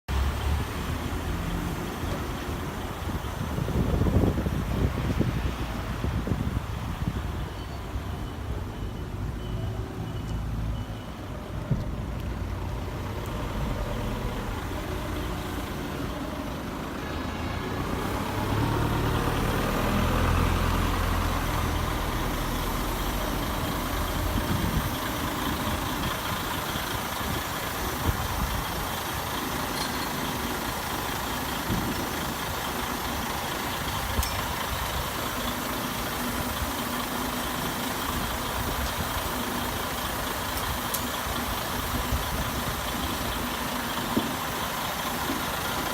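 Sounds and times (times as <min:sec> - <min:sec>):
diesel engine droning: 0:00.1 - 0:45.9.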